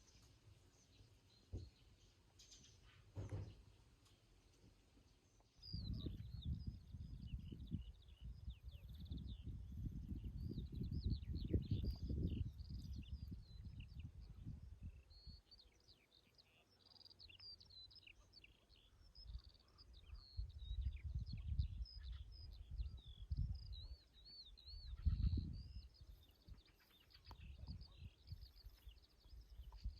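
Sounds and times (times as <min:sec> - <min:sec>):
songbirds chirping and singing: 0:00.0 - 0:29.9.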